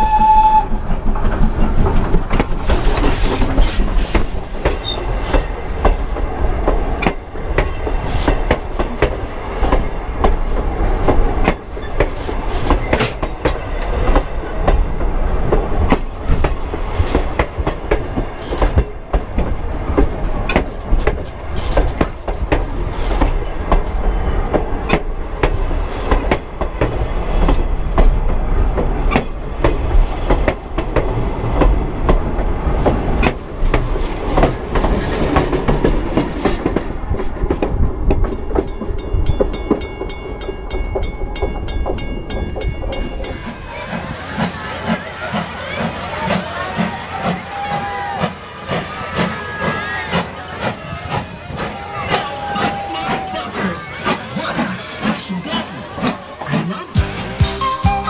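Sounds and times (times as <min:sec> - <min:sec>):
train rumbling overhead: 0:00.0 - 0:58.0
wheels clacking on track: 0:00.0 - 0:58.0.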